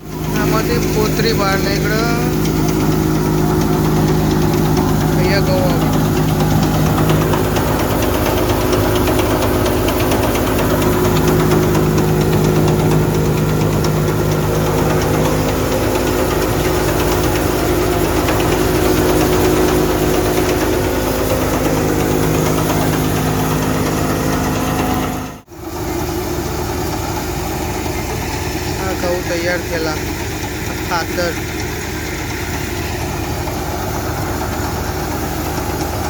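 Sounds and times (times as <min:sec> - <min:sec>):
thresher engine hum and rattle: 0:00.0 - 0:36.0.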